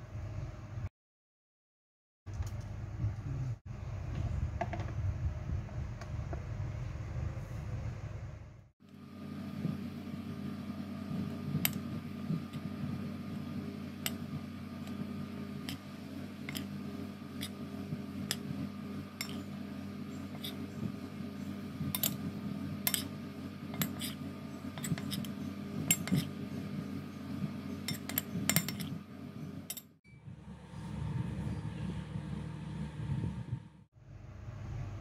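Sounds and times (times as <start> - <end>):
steady low hum: 0.0 - 0.9, 2.3 - 35.0.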